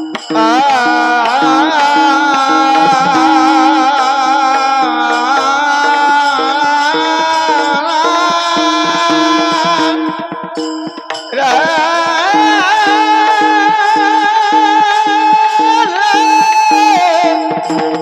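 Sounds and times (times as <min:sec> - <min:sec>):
hand drum beats: 0:00.0 - 0:18.0
man singing long vibrato note: 0:00.2 - 0:18.0.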